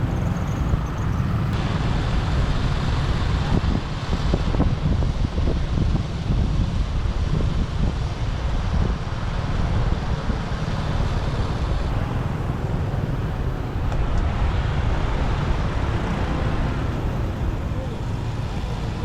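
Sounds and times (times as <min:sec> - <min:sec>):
motorbike engine rumble: 0:00.0 - 0:19.0
wind and road noise: 0:00.0 - 0:19.0.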